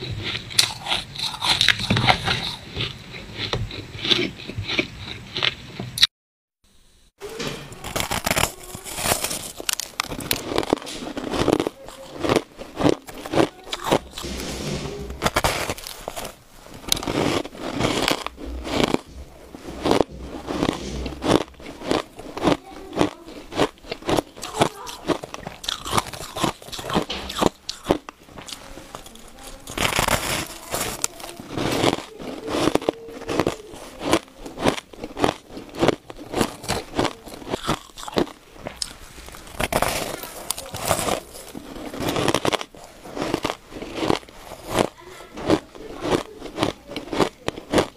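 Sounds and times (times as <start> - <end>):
shaved ice being chewed: 0.0 - 6.1, 7.2 - 47.9.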